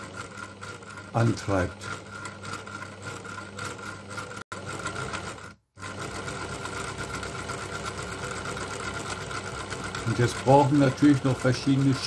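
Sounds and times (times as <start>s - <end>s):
sewing machine running: 0.0s - 12.0s.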